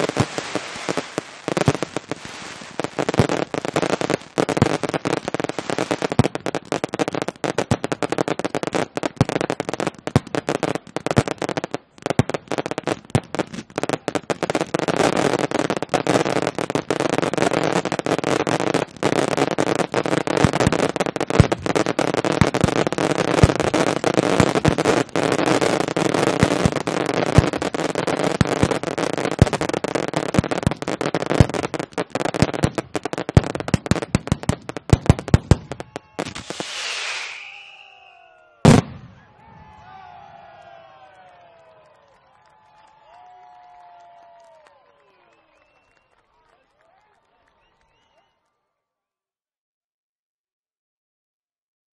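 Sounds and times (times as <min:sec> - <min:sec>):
fireworks bangs: 0:00.0 - 0:48.2
fireworks crackling: 0:00.0 - 0:48.2.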